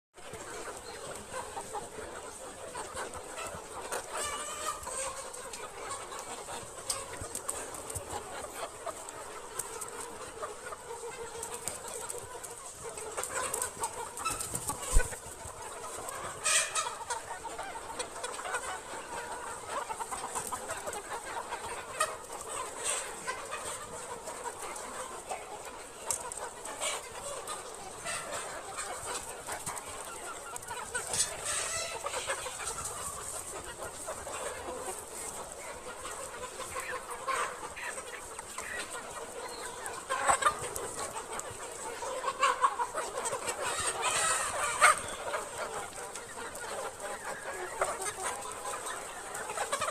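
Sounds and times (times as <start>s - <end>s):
chickens clucking: 0.2s - 49.9s.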